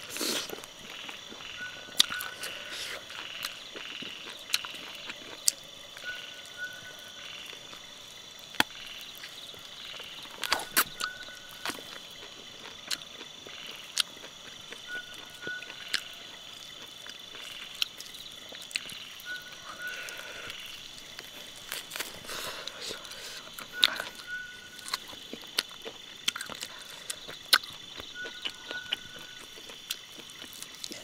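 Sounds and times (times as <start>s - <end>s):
bites and crunches of eating: 0.0s - 31.0s
insects and frogs chorus: 0.0s - 31.0s.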